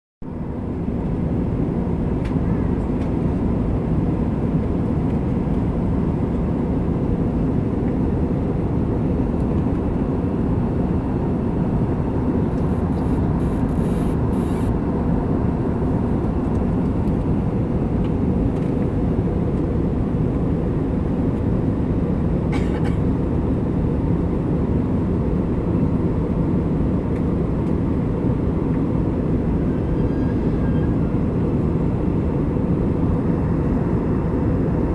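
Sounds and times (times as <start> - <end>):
jet engines and rushing air: 0.3 - 34.9.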